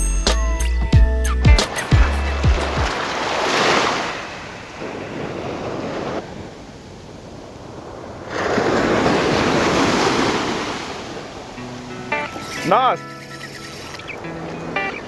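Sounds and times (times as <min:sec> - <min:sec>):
ocean surf washing up beach: 0:01.6 - 0:15.0.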